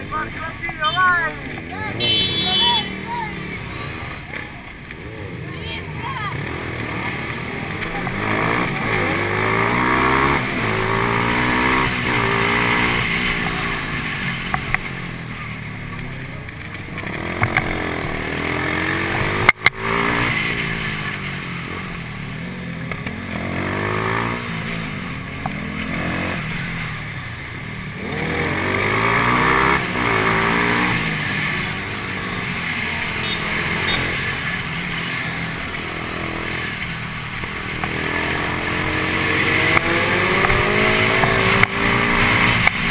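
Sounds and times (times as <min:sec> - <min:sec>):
motorcycle engine accelerating: 0:01.3 - 0:42.9.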